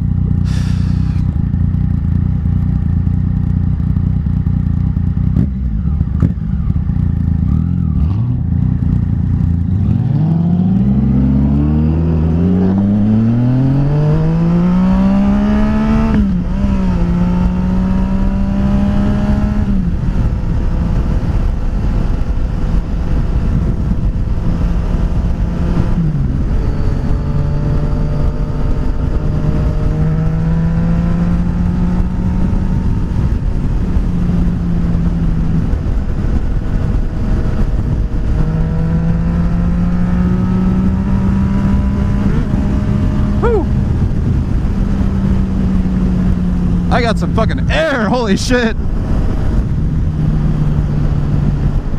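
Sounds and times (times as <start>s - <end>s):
motorcycle engine accelerating: 0.0s - 51.9s
wind noise on microphone: 8.3s - 47.6s, 48.8s - 51.9s.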